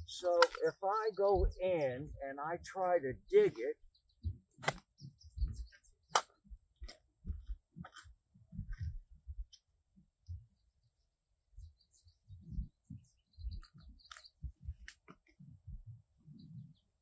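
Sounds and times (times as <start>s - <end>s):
soft low thuds: 2.8s - 17.0s.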